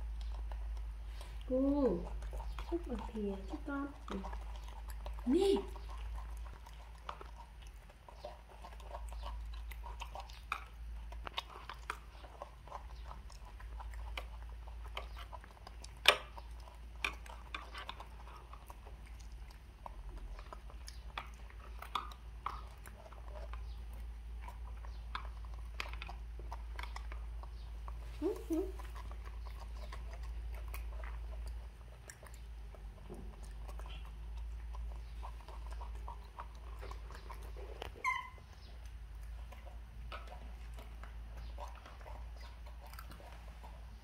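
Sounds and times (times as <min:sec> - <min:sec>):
chewing: 0:00.0 - 0:44.0.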